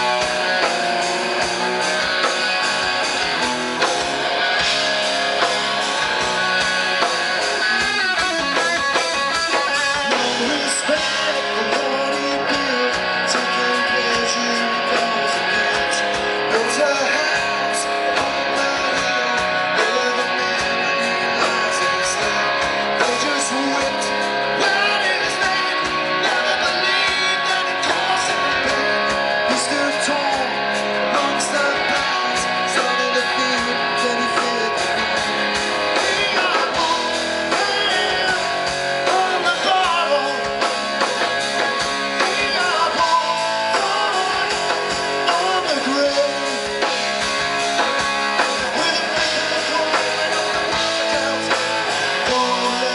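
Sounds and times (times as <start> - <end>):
electric guitar: 0.0 - 52.9
live rock band playing: 0.0 - 52.9.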